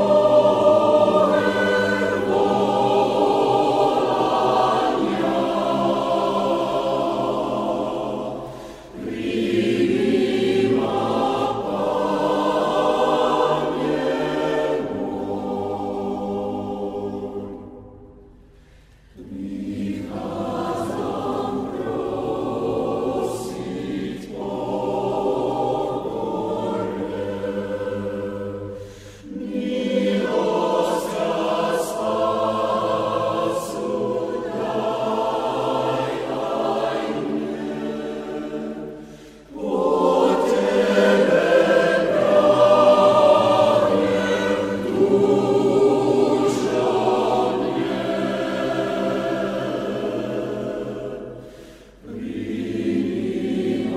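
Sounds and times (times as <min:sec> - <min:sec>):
choir singing a slow hymn: 0:00.0 - 0:53.9.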